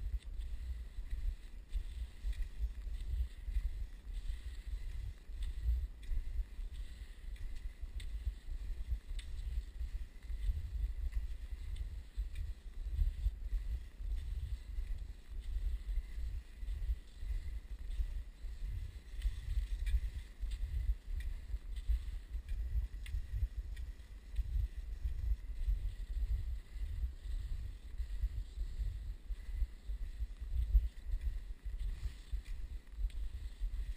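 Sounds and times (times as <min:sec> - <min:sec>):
faint ticks of movement over snow: 0:00.0 - 0:33.9
wind buffeting microphone: 0:00.0 - 0:33.9.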